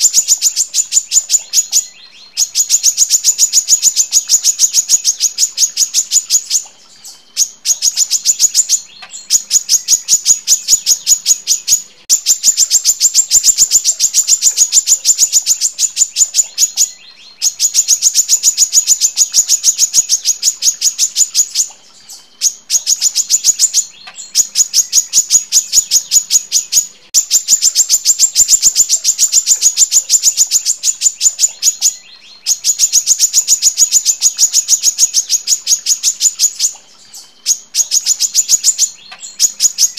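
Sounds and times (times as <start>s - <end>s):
sunbird singing sharp high chips: 0.0s - 39.9s.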